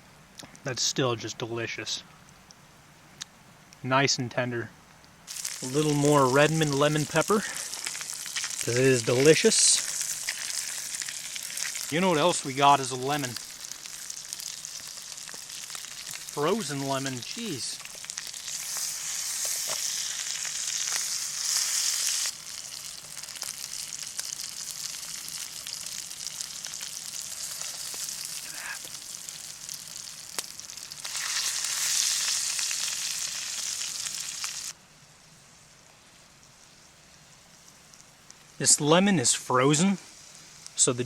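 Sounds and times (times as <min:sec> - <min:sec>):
fish sizzling in a pan: 0:05.3 - 0:38.6, 0:39.8 - 0:40.9.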